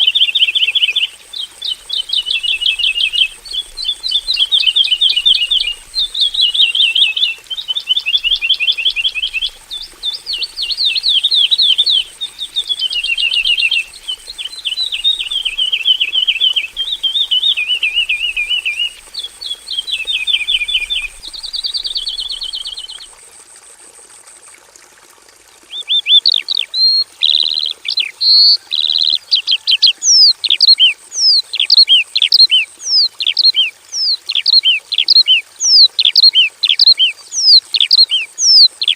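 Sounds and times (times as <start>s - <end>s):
bush lark singing: 0.0s - 23.1s, 25.7s - 38.9s.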